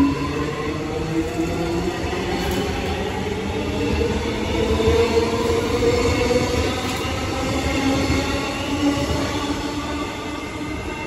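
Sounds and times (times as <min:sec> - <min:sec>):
train electric hum: 0:00.0 - 0:11.0
train wheels rumbling on rail: 0:00.0 - 0:11.0.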